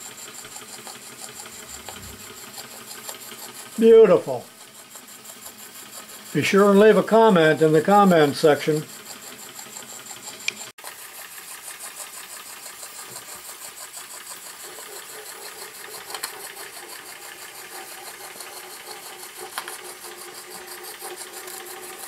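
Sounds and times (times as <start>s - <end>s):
model steam engine ticking: 0.0s - 22.0s.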